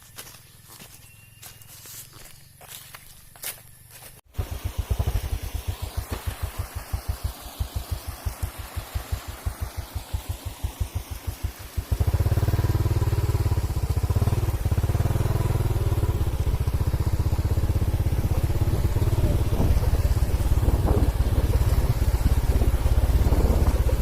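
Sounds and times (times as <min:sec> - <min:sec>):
small engine running: 0:00.1 - 0:24.0.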